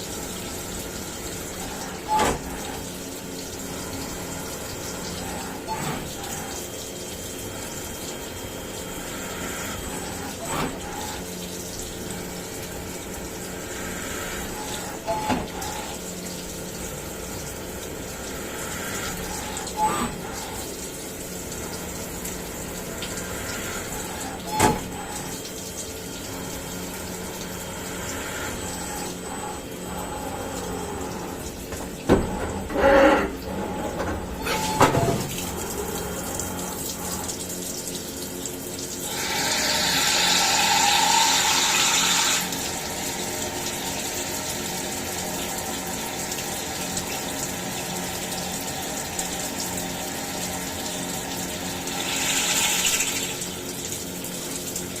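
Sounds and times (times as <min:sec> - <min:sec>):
cnc milling machine: 0:00.0 - 0:55.0
machine hum: 0:00.0 - 0:55.0
rush of coolant: 0:00.0 - 0:55.0.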